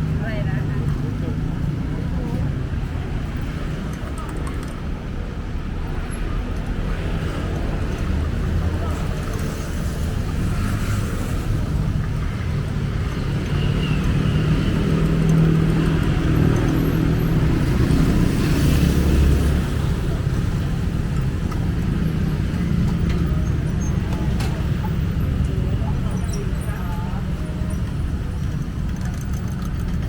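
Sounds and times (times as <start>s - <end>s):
traffic engines rumbling: 0.0s - 30.0s.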